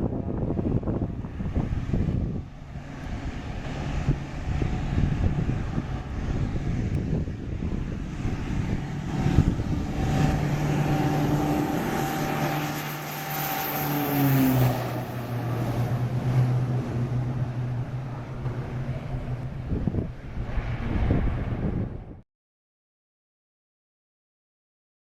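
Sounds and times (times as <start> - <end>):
turboprop aircraft passing: 0.0 - 22.2.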